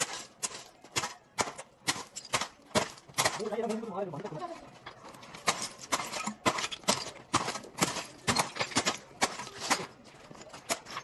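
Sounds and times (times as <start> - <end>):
shovel striking rubble: 0.0 - 4.0, 5.1 - 11.0.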